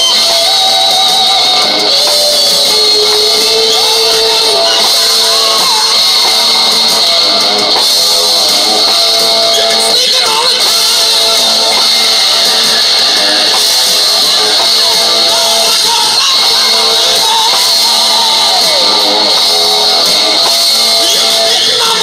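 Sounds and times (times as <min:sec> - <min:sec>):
rock song with guitar: 0:00.0 - 0:22.0.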